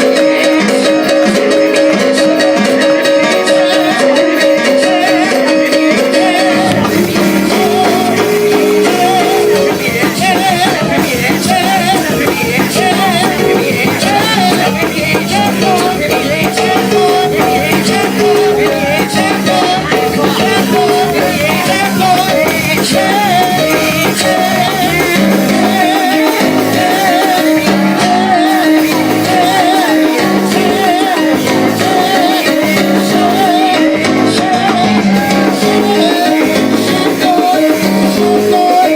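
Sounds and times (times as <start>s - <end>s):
band playing praise music: 0.0s - 38.9s
singing: 0.0s - 38.9s.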